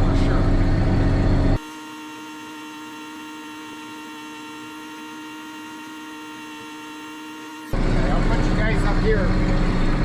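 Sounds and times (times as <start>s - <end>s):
tractor machine whine: 0.1s - 10.0s.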